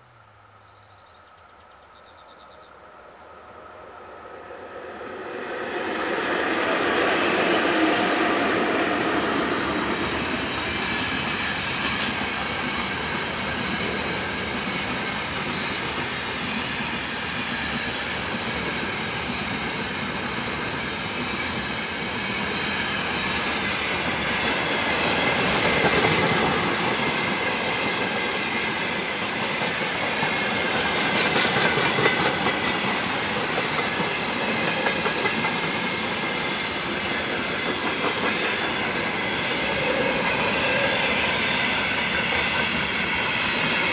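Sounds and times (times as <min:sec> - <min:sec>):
freight train wheels clacking: 0:05.3 - 0:43.9.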